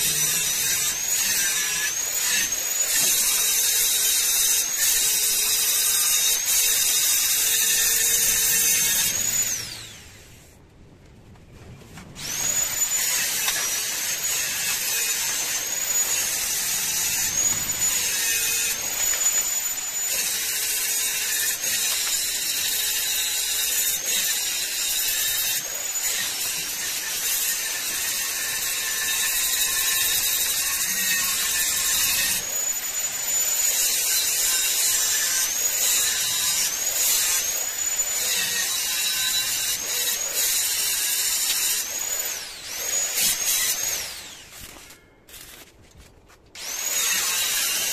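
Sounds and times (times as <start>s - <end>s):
electric power tool whining: 0.0s - 10.6s, 12.2s - 45.7s, 46.6s - 47.9s.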